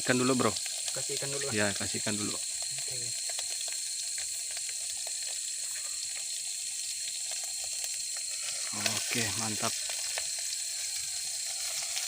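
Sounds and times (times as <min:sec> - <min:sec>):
fish frying in butter: 0:00.0 - 0:12.0.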